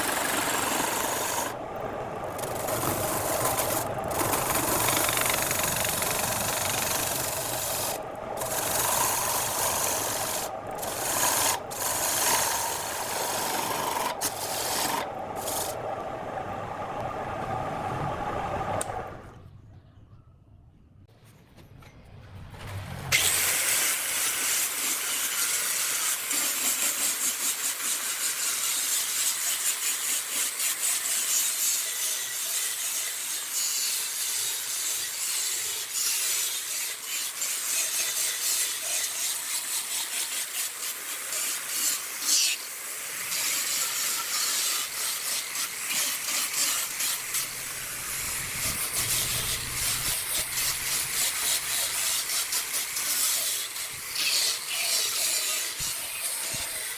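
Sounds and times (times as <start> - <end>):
tool scraping wood on a lathe: 0.0 - 16.0, 24.4 - 56.9.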